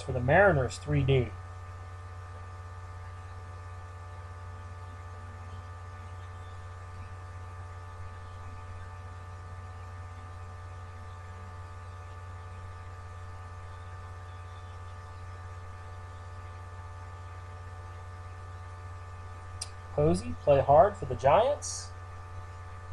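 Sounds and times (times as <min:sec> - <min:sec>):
electrical mains hum: 0:00.0 - 0:22.9.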